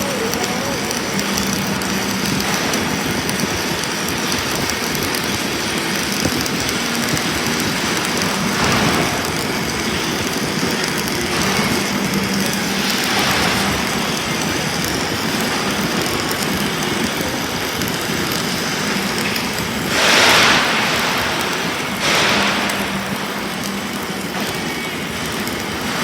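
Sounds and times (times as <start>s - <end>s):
welding arc crackle: 0.0s - 26.0s.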